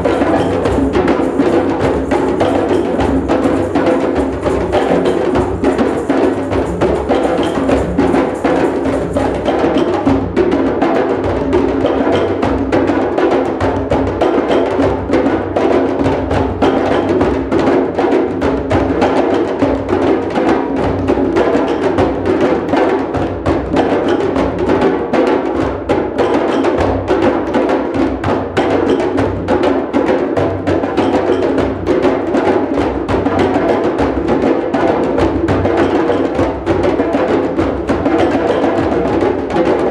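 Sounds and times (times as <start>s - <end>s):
hand drums and percussion playing: 0.0s - 39.9s.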